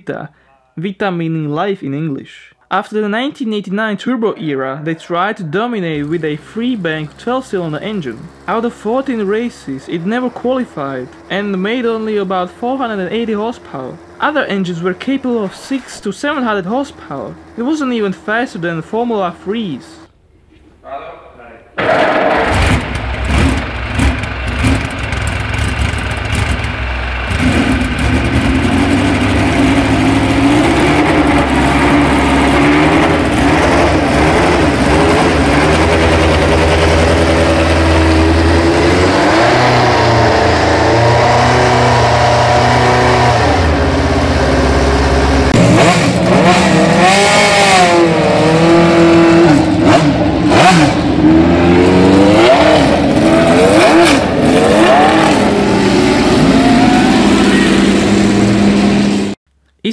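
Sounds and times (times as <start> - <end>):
racing engine revving: 5.0 - 20.1, 21.8 - 59.4.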